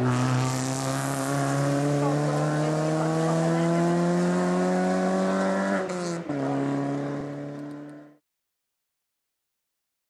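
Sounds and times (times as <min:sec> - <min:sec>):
rally car engine revving: 0:00.0 - 0:08.2.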